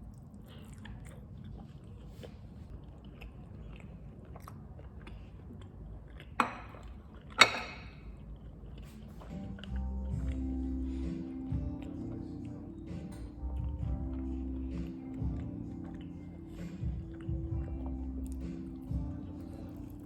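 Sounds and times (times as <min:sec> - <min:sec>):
person chewing: 0:00.0 - 0:20.0.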